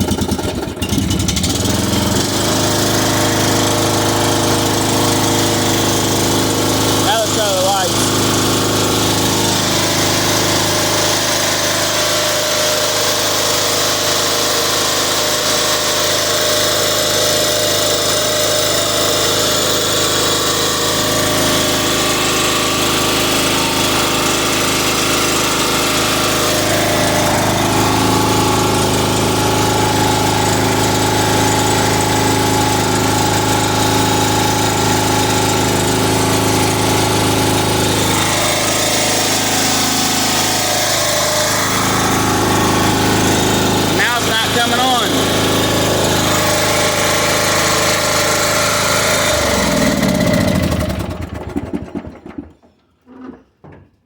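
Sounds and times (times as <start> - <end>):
riding lawn mower engine running: 0.0 - 52.8.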